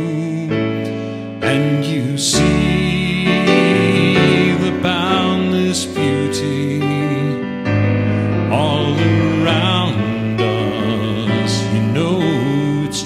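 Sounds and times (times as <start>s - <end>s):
man singing with vibrato: 0.0s - 13.0s
piano chords: 0.0s - 13.0s.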